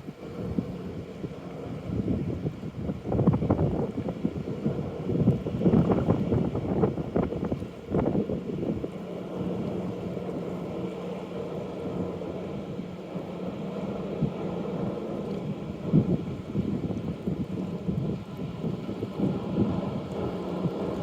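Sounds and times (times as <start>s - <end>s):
low engine hum: 0.0s - 21.0s
wind buffeting microphone: 0.0s - 21.0s.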